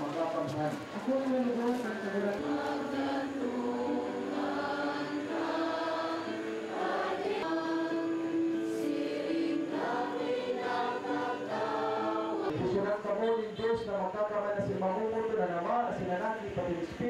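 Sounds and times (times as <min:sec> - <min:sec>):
congregation singing a hymn: 0:00.0 - 0:13.7.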